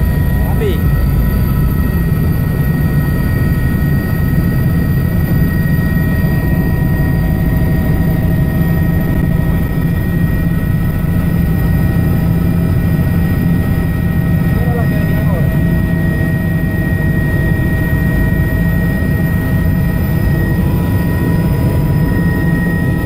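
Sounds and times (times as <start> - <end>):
helicopter low drone: 0.0 - 23.0.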